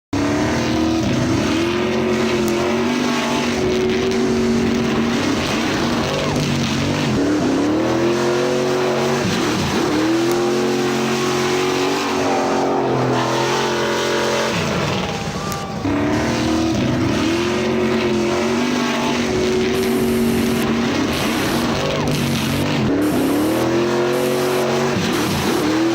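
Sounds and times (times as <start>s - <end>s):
car engine revving through gears: 0.2s - 25.9s.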